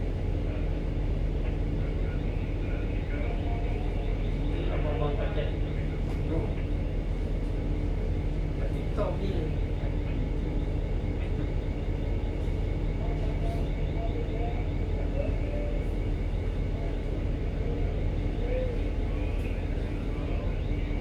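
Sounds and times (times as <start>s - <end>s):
ship engine drone: 0.0s - 21.0s
distant voices: 0.2s - 21.0s.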